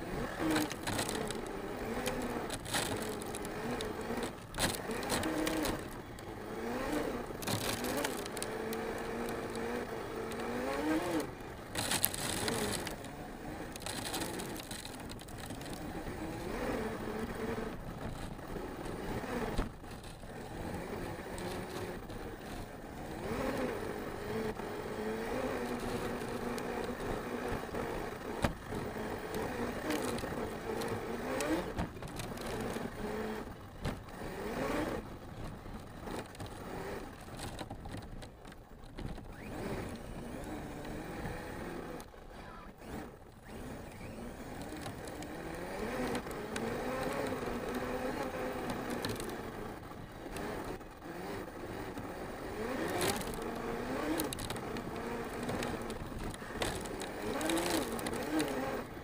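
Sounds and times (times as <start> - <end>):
tyres on the ground: 0.0 - 51.1, 51.9 - 59.0.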